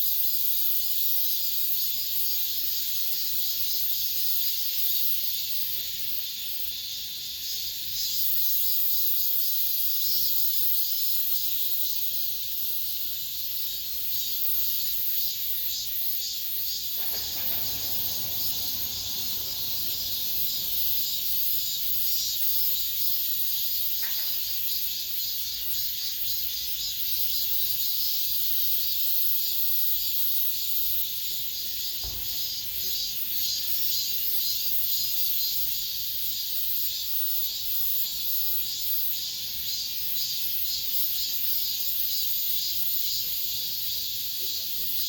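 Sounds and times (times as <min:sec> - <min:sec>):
cicadas buzzing: 0:00.0 - 0:45.0.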